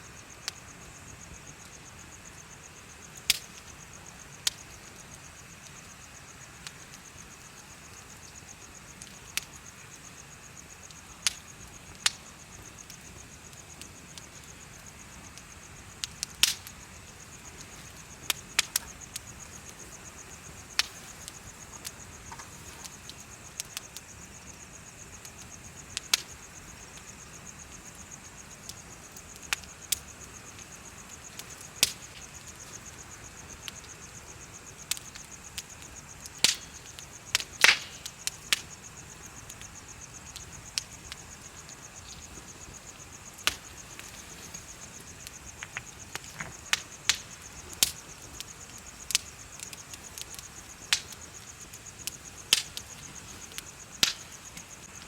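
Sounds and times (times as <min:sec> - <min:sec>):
crickets trilling: 0:00.0 - 0:55.0
bonfire crackling and popping: 0:00.1 - 0:55.0.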